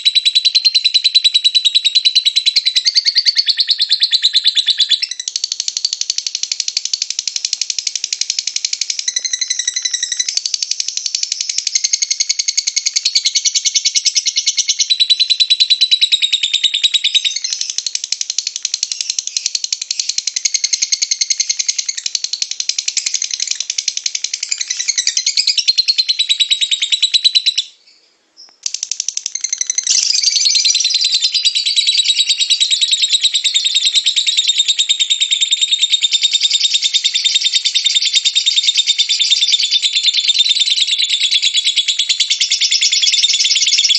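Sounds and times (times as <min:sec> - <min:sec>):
lovebird chattering trill: 0:00.0 - 0:27.8, 0:28.6 - 0:43.9.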